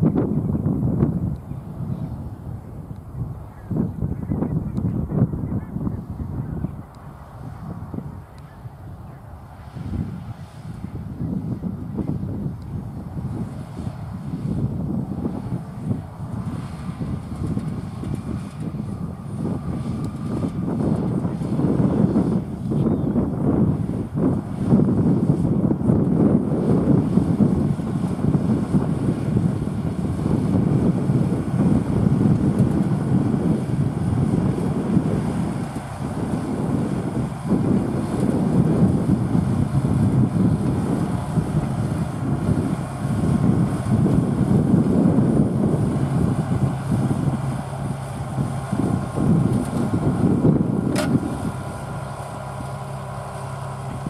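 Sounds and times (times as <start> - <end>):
tractor diesel engine under load: 0.0 - 54.0
wind buffeting microphone: 0.0 - 54.0.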